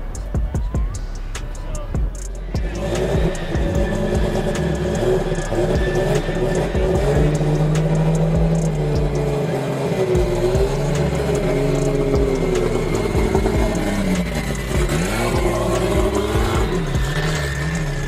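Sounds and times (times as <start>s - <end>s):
car engine at low revs: 2.3s - 18.0s.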